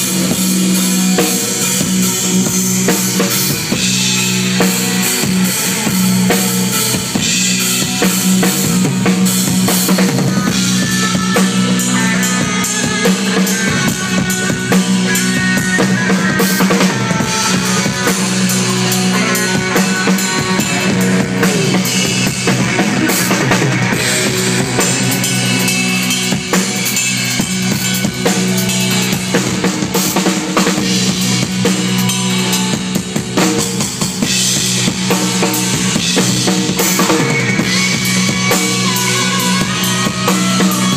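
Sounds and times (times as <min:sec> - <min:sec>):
drum kit: 0:00.0 - 0:40.9
live rock band playing: 0:00.0 - 0:40.9.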